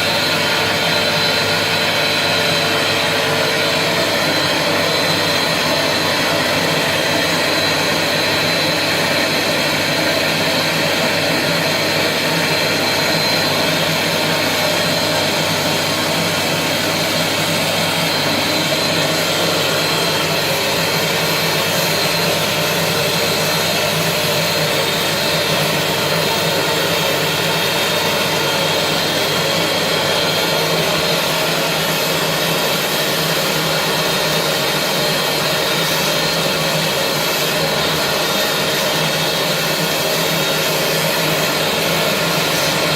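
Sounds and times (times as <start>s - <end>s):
carpet cleaner motor running: 0.0s - 42.9s.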